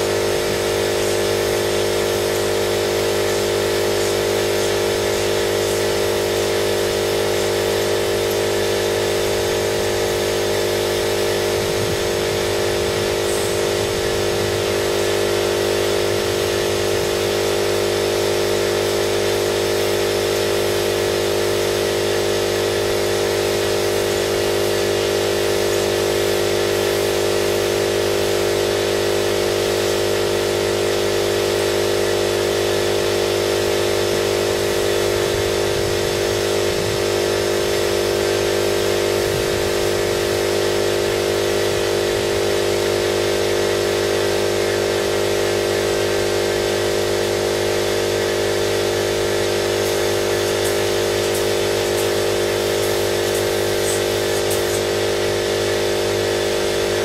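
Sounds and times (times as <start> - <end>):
spray painting motor humming: 0.0 - 57.0.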